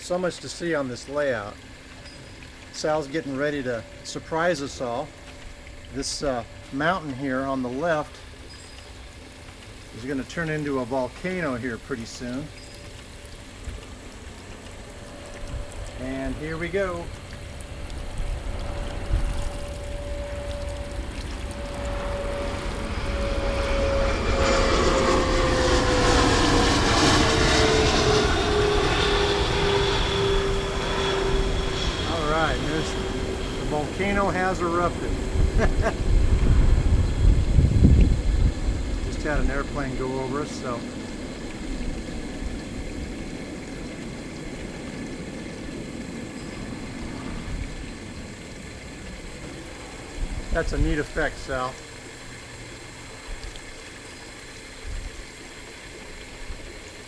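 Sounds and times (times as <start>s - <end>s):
propeller airplane engine drone: 0.0s - 57.0s.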